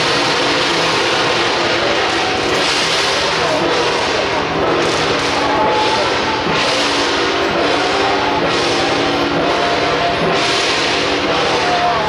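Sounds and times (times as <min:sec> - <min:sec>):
cymbal crashes: 0:00.0 - 0:12.0
dense drumming: 0:00.0 - 0:12.0.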